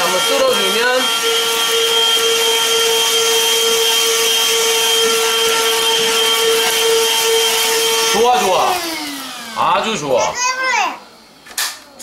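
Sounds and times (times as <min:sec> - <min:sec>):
handheld vacuum running: 0:00.0 - 0:10.6.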